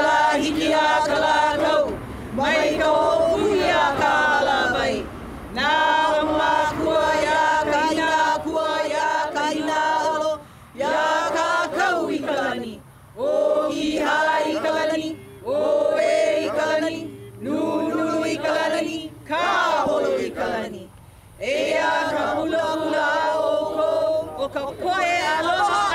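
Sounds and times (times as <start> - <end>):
group of voices chanting: 0.0 - 25.9.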